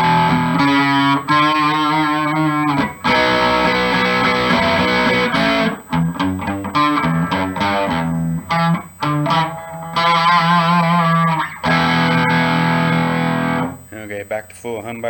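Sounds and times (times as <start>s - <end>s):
electric guitar through amplifier: 0.0s - 14.6s.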